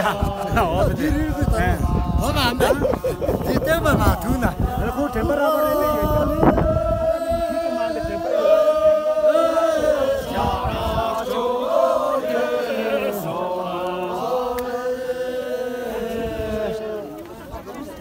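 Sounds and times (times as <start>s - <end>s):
group chanting in unison: 0.0s - 17.2s.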